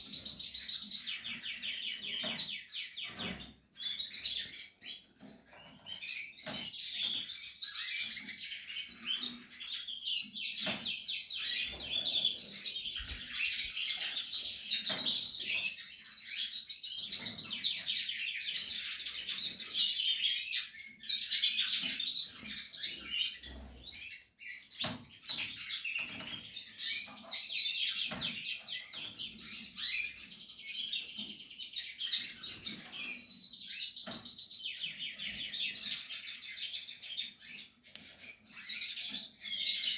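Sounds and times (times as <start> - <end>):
canary singing with trills: 0.0 - 39.9.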